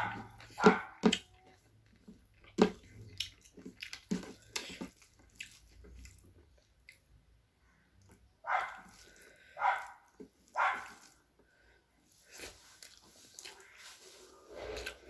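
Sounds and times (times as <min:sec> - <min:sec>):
mouth chewing food: 0:00.0 - 0:07.3, 0:08.0 - 0:15.0.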